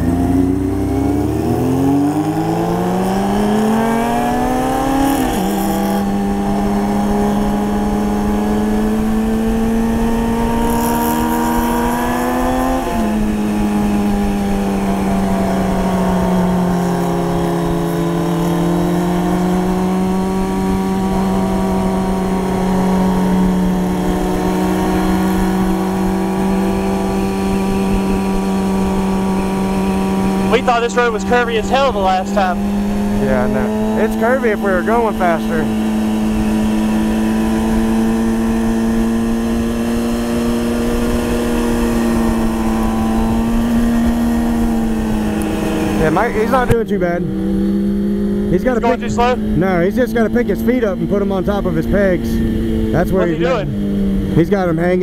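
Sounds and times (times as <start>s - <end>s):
wind rush on microphone: 0.0s - 48.5s
motorcycle engine accelerating: 0.0s - 55.0s.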